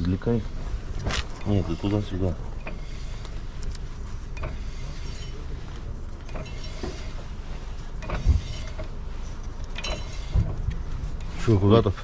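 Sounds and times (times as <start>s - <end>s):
wheel creaking: 0.4s - 3.5s, 4.3s - 12.0s.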